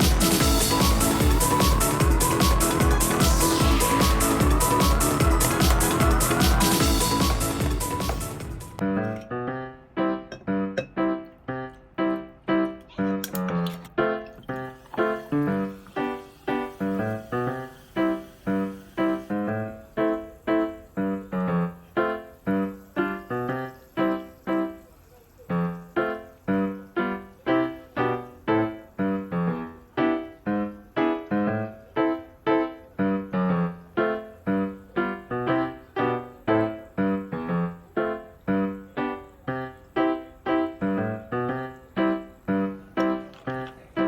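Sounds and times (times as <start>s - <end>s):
light keyboard tune: 0.0s - 44.0s.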